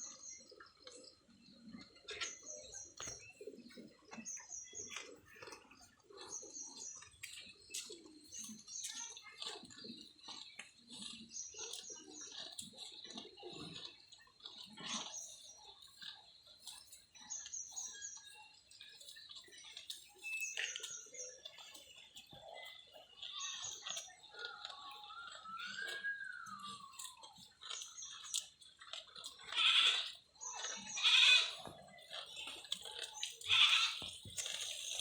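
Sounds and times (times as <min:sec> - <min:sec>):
small birds chirping: 0:00.0 - 0:35.0
grass being torn and chewed: 0:00.2 - 0:35.0.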